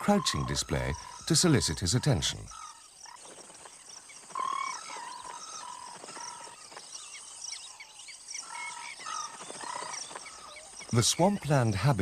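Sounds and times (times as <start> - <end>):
high insect chirps: 0.0 - 12.0.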